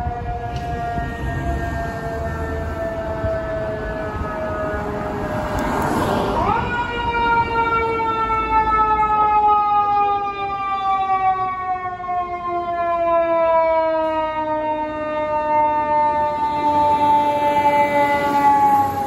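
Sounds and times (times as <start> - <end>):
fire engine siren wailing: 0.0 - 19.0.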